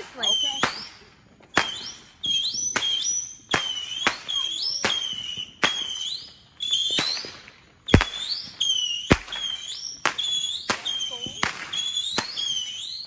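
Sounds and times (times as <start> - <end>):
firework high whistle: 0.0 - 13.0
firework pops: 0.0 - 13.0.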